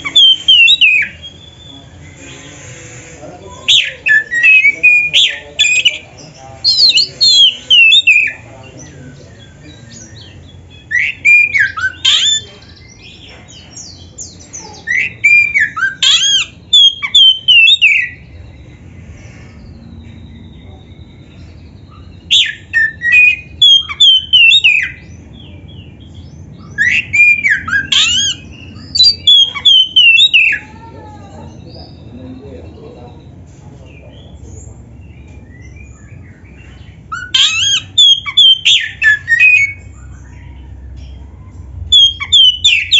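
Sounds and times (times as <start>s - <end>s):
bird singing whistled notes: 0.0s - 2.4s, 3.5s - 18.7s, 19.6s - 30.7s, 34.1s - 41.3s, 41.9s - 42.9s.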